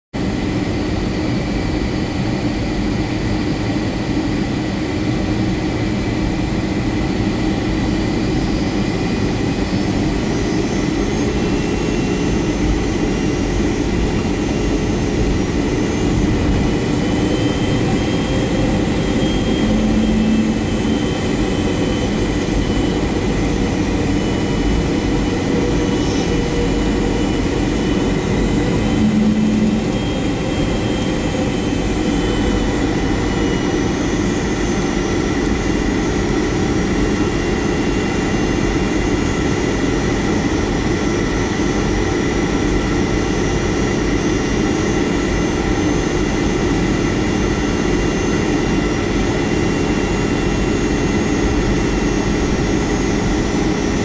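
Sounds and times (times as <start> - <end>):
higher engine whine: 0.2 - 54.0
jet engine hum with whine: 0.2 - 54.0.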